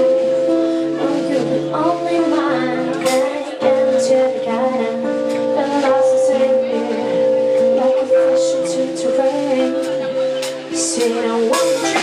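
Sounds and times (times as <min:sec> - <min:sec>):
plucked guitar: 0:00.0 - 0:12.0
woman singing: 0:00.8 - 0:12.0.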